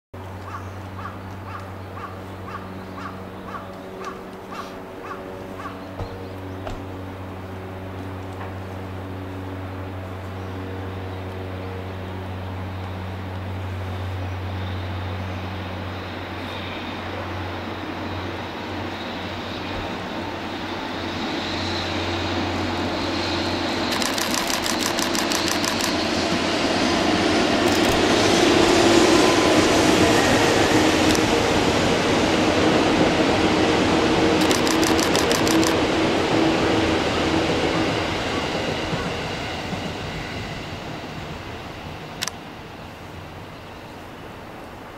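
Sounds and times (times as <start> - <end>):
train hum and rumble: 0.2 - 44.9.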